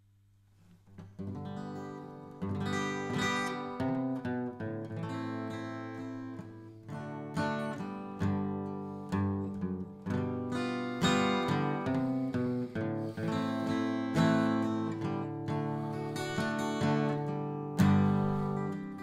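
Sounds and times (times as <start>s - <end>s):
acoustic guitar chords: 0.8s - 19.0s.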